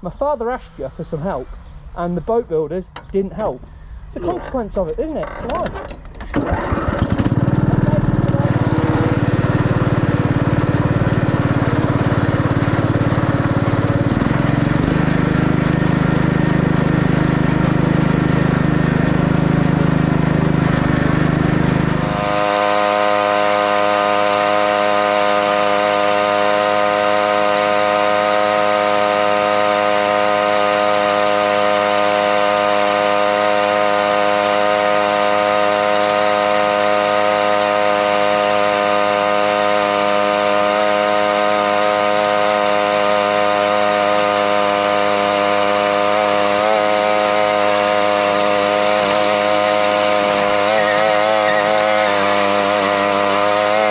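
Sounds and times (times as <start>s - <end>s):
engine running: 3.4s - 53.9s
high machine whine: 5.9s - 53.9s.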